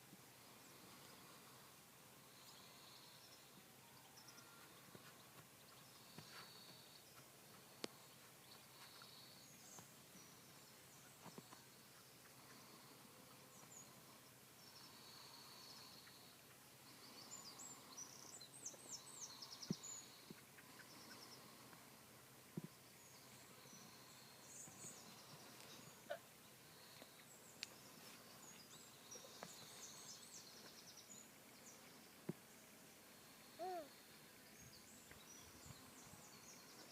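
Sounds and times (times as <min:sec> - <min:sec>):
faint birdsong chirps and trills: 0:00.0 - 0:36.9.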